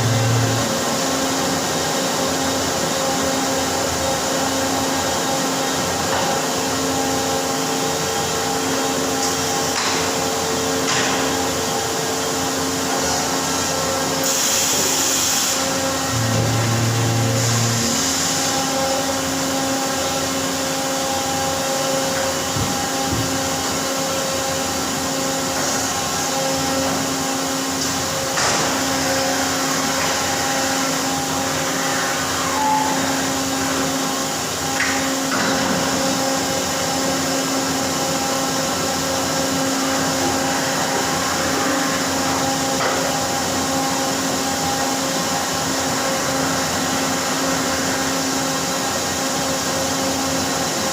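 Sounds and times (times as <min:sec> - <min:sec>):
machinery hissing and humming: 0:00.0 - 0:50.9.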